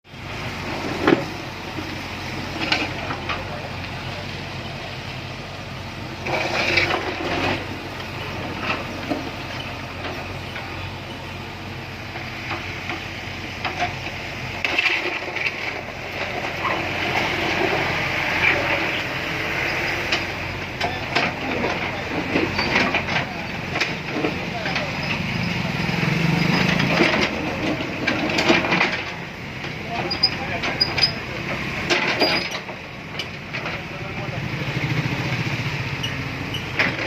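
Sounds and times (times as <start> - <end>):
rumble of vehicles or machinery: 0.0 - 37.0
knocks and scraping: 0.4 - 4.2, 6.2 - 11.2, 12.0 - 37.0.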